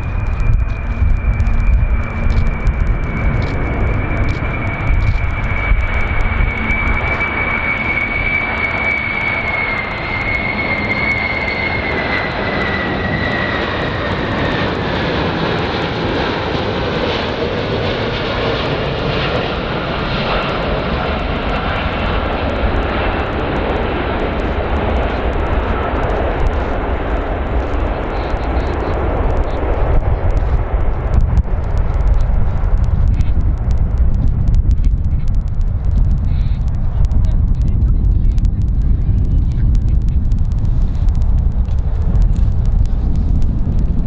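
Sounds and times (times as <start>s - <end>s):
jet engines whining overhead: 0.0s - 44.0s.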